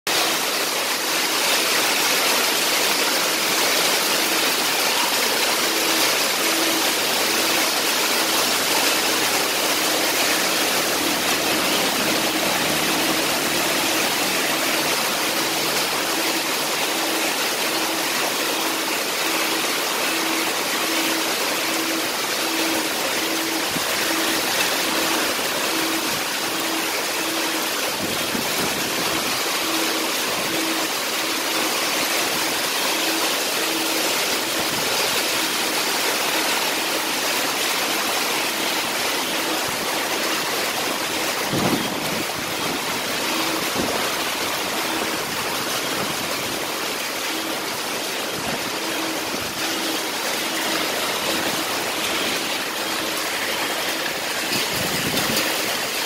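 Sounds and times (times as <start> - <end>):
heavy rain and hail: 0.1 - 56.0.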